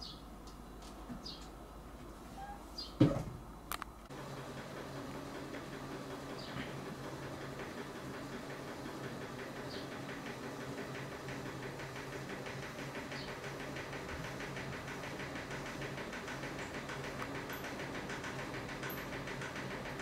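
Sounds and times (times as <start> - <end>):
room noise hum and hiss: 0.0 - 20.0.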